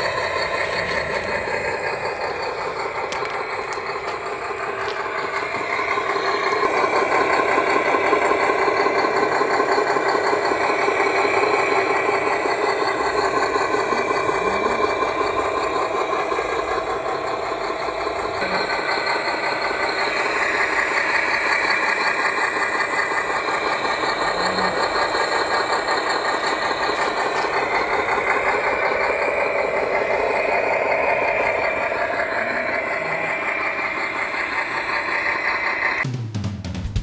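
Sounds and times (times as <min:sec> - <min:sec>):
diesel engine idling through small speaker: 0:00.0 - 0:36.2.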